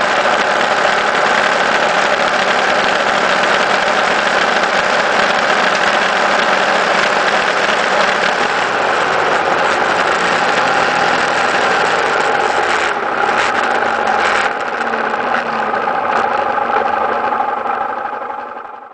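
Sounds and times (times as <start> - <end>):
vehicle engine and tyre noise: 0.0 - 18.9.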